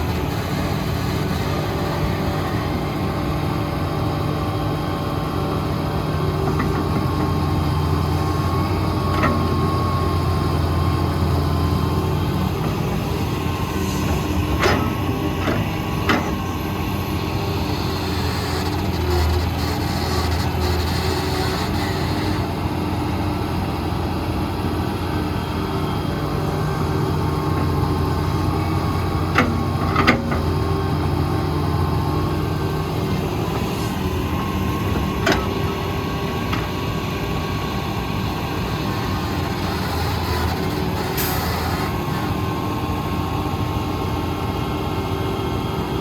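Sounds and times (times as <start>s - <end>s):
heavy machinery engines rumbling: 0.0s - 46.0s.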